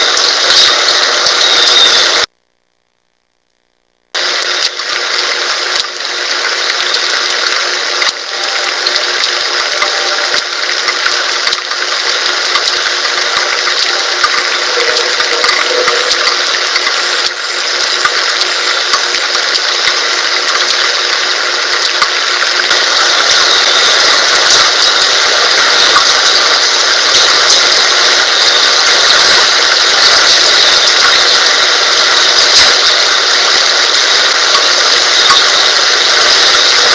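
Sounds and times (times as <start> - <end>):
rain hissing: 0.0 - 2.3, 4.1 - 36.9.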